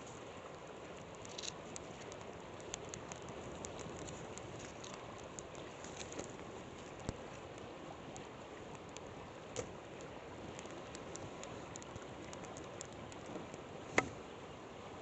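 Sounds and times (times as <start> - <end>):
river flowing: 0.0 - 15.0
campfire crackling and popping: 0.5 - 14.2.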